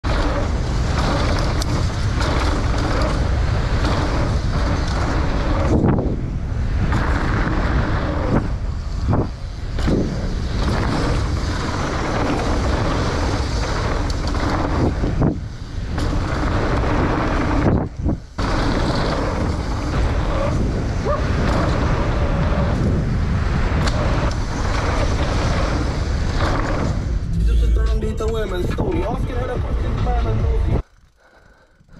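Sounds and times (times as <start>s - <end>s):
bike tyres rolling over dirt: 0.0s - 27.3s
wind buffeting camera: 0.0s - 31.2s
bike rattling: 0.0s - 31.9s.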